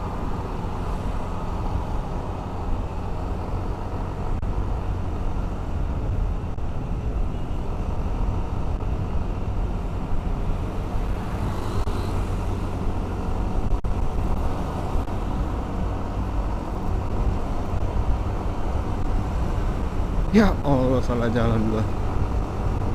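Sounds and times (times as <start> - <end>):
motorcycle engine drone: 0.0 - 20.8
road traffic hum: 0.0 - 22.9
wind rushing over microphone: 0.0 - 22.9.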